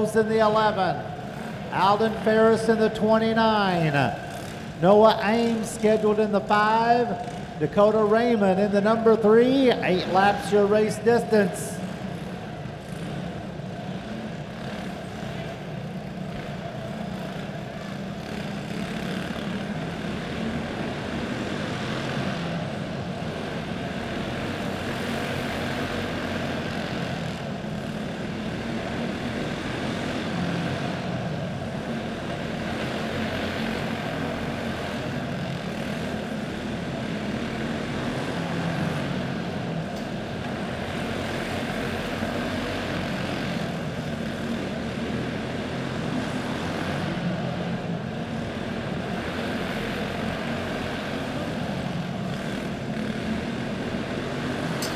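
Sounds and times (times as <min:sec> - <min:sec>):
kart engines droning: 0:00.0 - 0:54.9.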